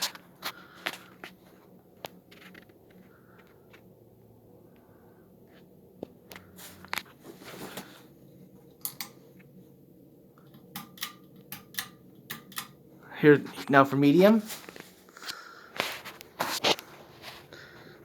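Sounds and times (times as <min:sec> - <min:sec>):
ceiling fan humming: 0:00.0 - 0:18.0.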